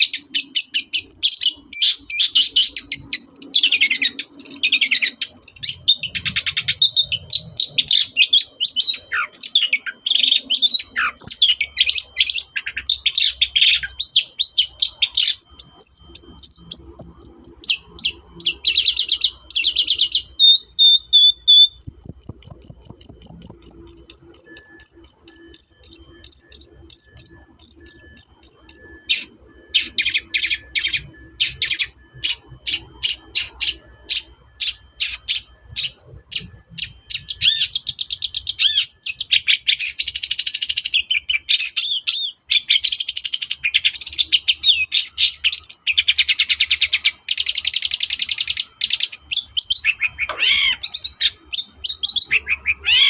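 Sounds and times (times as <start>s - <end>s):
bird singing: 0.0s - 53.0s.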